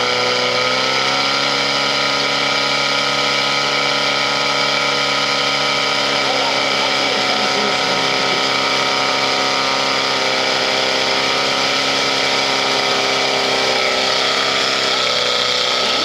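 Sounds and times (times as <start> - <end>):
pump engine droning: 0.0 - 16.0.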